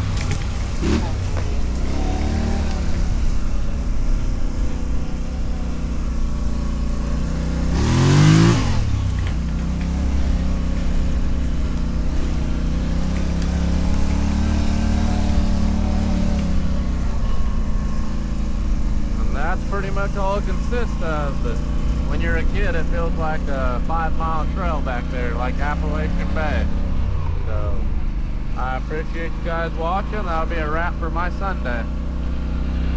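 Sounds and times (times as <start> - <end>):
atv engine running and revving: 0.0 - 32.9.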